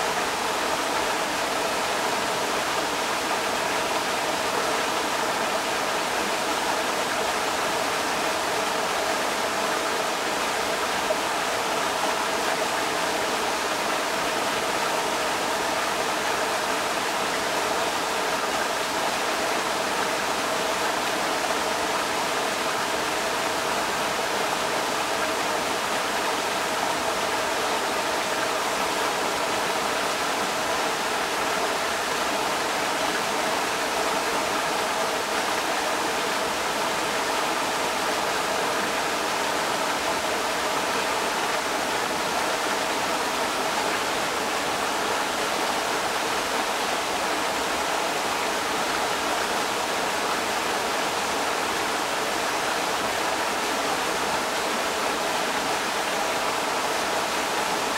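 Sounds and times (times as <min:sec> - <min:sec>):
creek water rushing over rocks: 0:00.0 - 0:57.9.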